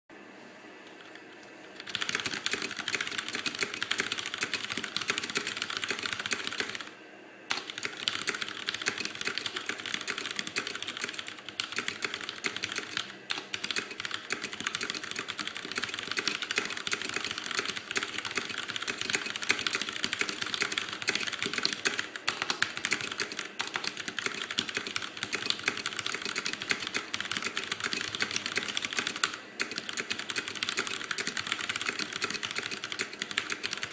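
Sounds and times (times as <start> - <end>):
fast mechanical keyboard typing: 1.8 - 6.9, 7.5 - 33.9.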